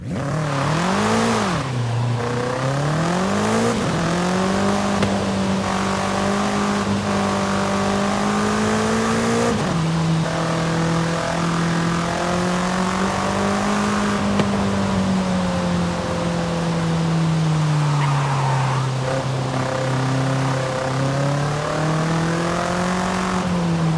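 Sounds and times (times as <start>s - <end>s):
car engine revving with upshifts: 0.0s - 23.9s.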